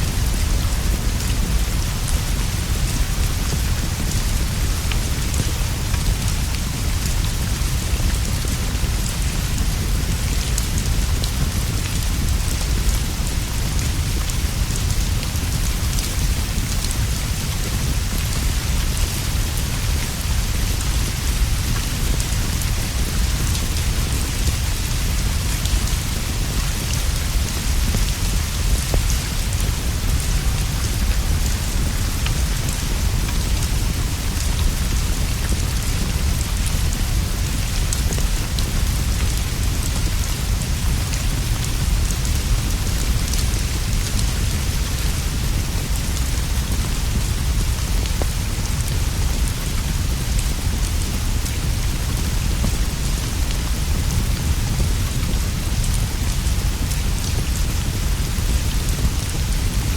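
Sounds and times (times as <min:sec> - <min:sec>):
rain on leaves and straw roof: 0:00.0 - 0:59.9.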